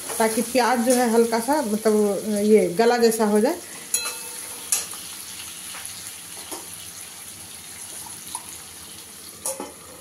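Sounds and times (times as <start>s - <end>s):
onions and potatoes sizzling in oil: 0.0s - 10.0s.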